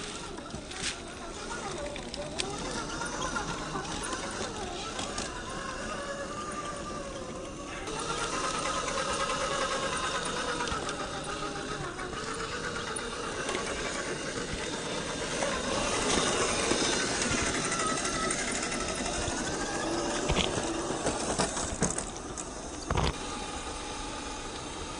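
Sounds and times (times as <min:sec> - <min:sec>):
electric motor whining: 0:00.0 - 0:24.9.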